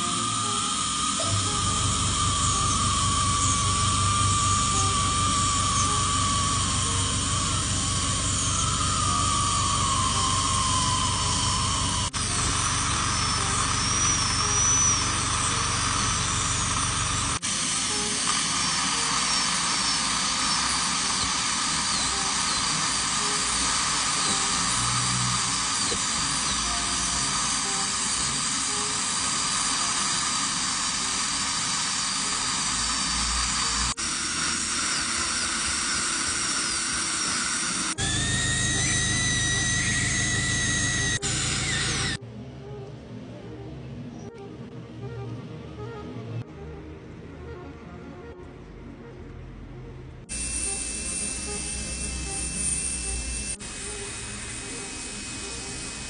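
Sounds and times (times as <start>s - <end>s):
dental drill whining: 0.0s - 42.2s, 50.3s - 56.0s.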